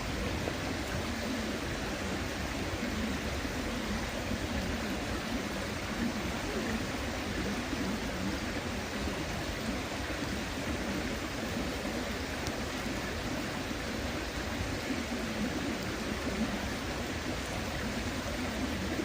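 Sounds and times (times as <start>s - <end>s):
river flowing over stones: 0.0s - 19.0s.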